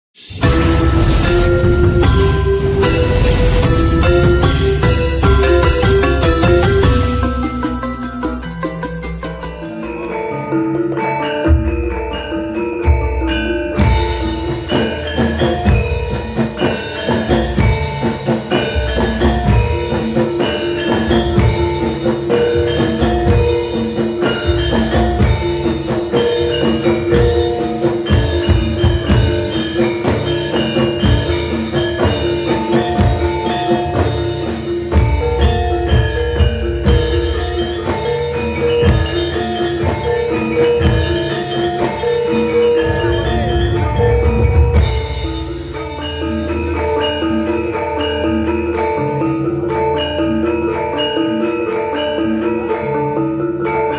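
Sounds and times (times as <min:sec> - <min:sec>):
bronze metallophones and gongs: 0:00.2 - 0:53.9
drum strokes: 0:00.2 - 0:53.9.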